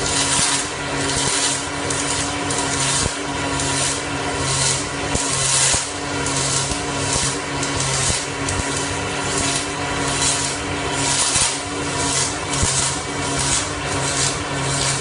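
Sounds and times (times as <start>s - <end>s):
welding arc crackling hiss: 0.0s - 15.0s.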